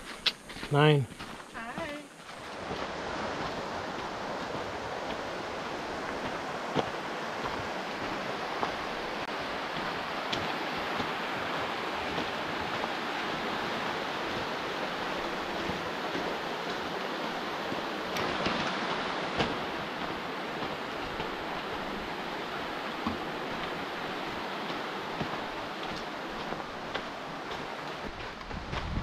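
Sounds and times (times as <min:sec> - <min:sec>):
flowing water rushing: 0:00.8 - 0:28.8.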